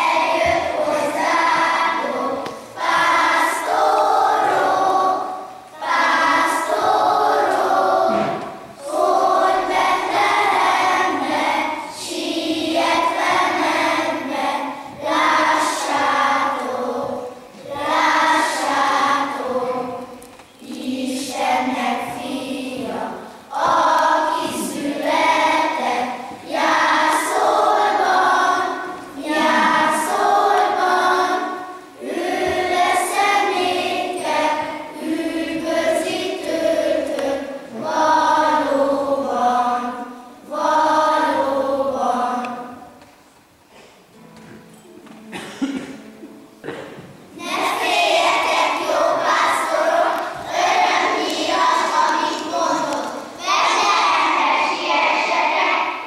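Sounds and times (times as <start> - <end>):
children singing: 0.0 - 43.1, 46.6 - 56.0.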